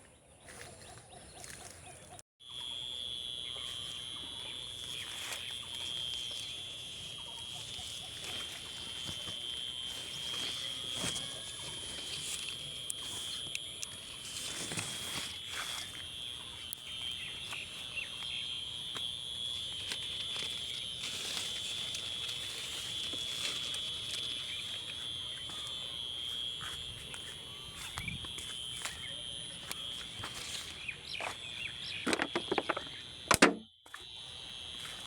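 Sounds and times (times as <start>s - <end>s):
high-pitched drone: 2.5s - 33.5s.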